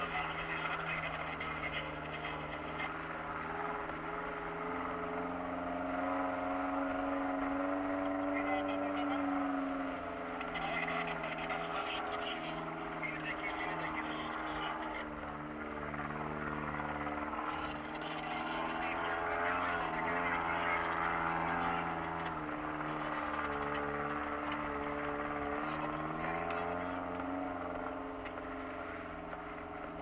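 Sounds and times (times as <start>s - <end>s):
car engine running: 0.0s - 30.0s
tyres rumbling on dirt: 0.0s - 30.0s.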